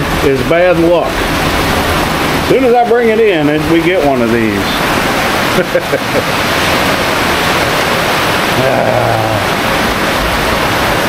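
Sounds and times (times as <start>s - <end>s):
heavy rain rushing: 0.0s - 11.0s.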